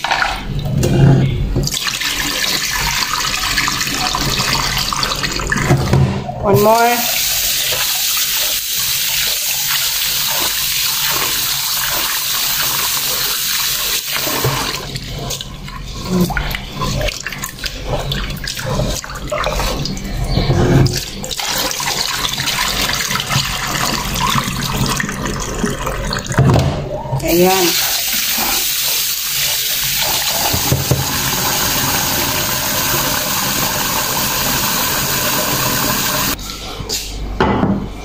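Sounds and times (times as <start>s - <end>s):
water splashing and sloshing: 0.0s - 8.4s, 9.1s - 36.4s
water poured into sink: 1.6s - 6.0s, 6.8s - 26.7s, 27.4s - 36.4s.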